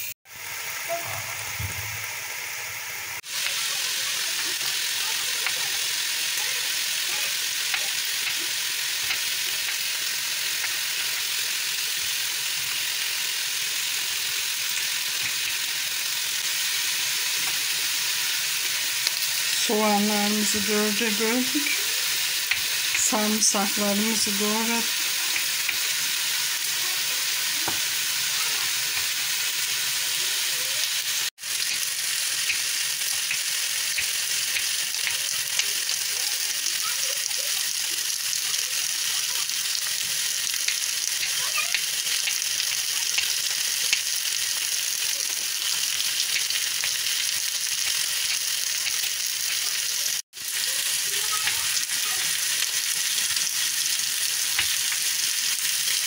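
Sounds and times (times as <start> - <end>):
meat sizzling in a pot: 0.0 - 56.0.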